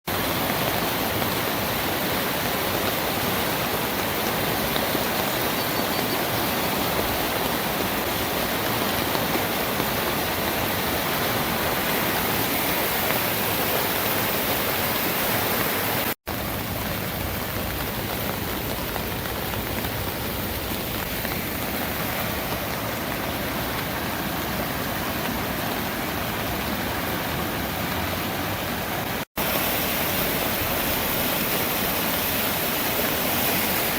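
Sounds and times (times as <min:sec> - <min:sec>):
river rushing roar: 0:00.1 - 0:33.9.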